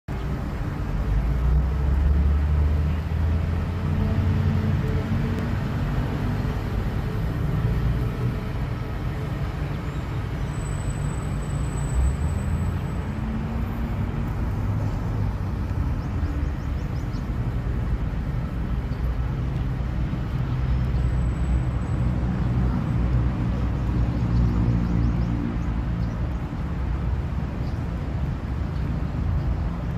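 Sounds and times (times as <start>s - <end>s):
road noise: 0.1s - 29.9s
vehicle rumbling along road: 0.1s - 29.9s.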